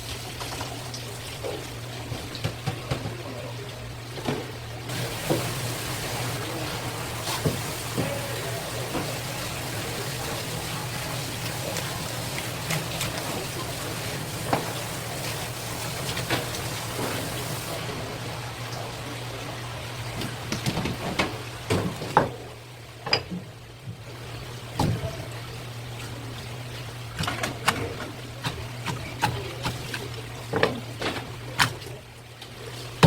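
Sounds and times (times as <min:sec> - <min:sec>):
water running: 0:00.0 - 0:33.0.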